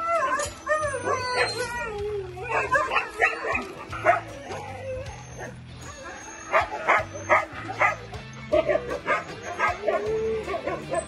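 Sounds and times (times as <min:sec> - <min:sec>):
dogs whining and howling: 0:00.0 - 0:11.0
dogs yipping and barking: 0:00.0 - 0:11.0.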